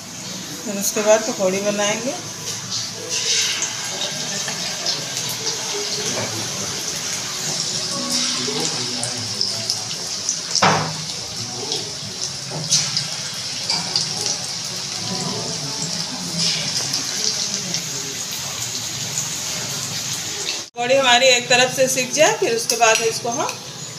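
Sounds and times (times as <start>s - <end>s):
food deep-frying in hot oil: 0.0s - 23.9s.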